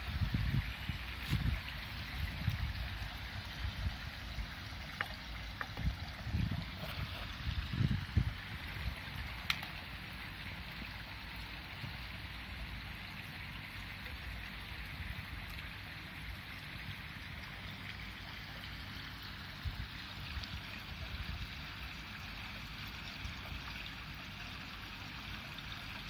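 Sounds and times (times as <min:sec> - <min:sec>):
running water in a pond: 0:00.0 - 0:26.0.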